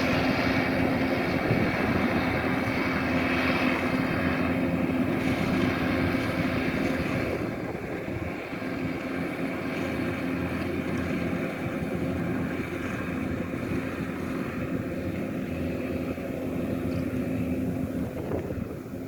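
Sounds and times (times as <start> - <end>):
combine harvester diesel engine: 0.0 - 19.0.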